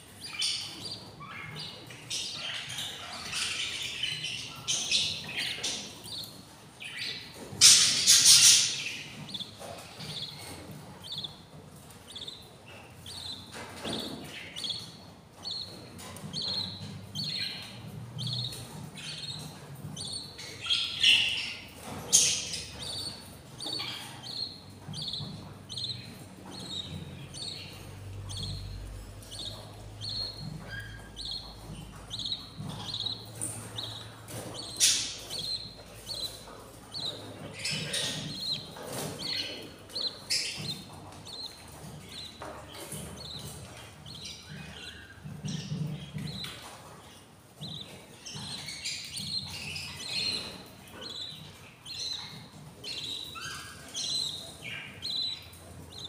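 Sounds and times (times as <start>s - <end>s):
budgies chirping: 0.0s - 56.0s
harsh bird calls: 0.0s - 56.0s.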